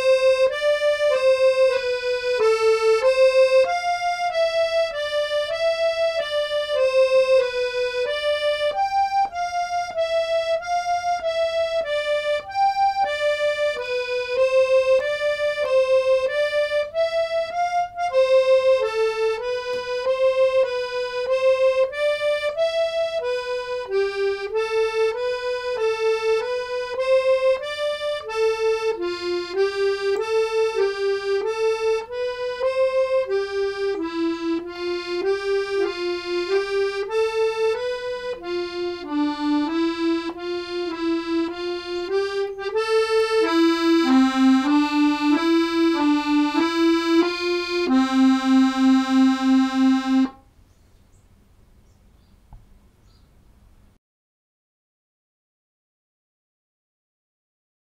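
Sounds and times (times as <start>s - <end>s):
piano accordion playing notes: 0.0s - 50.5s.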